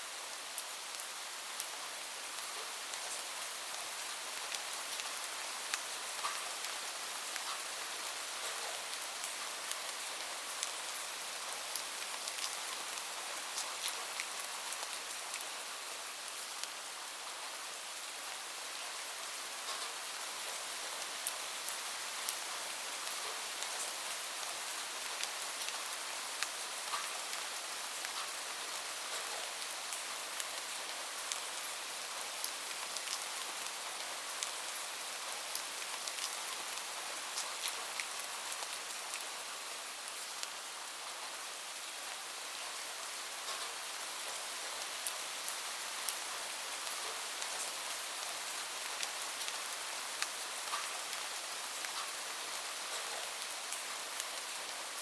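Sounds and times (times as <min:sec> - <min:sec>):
steady rain falling: 0:00.0 - 0:55.0
raindrops pattering on a surface: 0:00.5 - 0:18.4, 0:19.5 - 0:41.8, 0:43.4 - 0:55.0.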